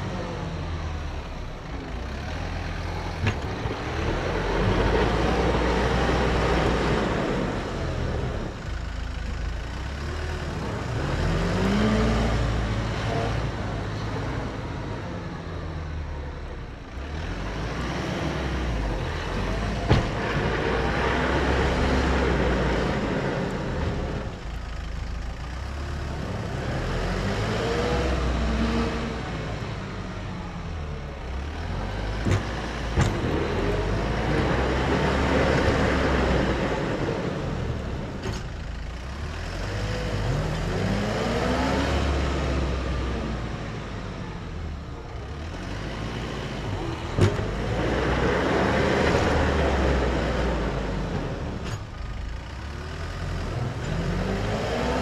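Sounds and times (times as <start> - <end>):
tractor diesel engine working: 0.0 - 55.0.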